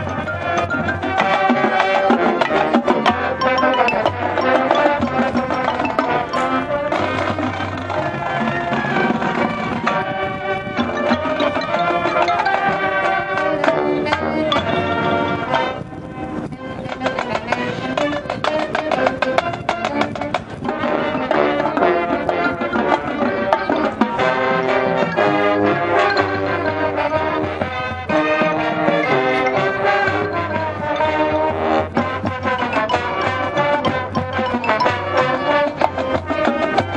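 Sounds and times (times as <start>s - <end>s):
marching band playing: 0.0s - 36.9s.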